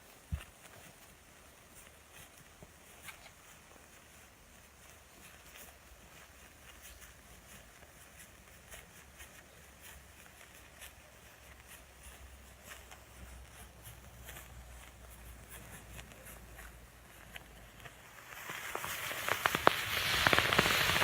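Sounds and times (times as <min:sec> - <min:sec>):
burning matches crackling: 0:00.0 - 0:21.0.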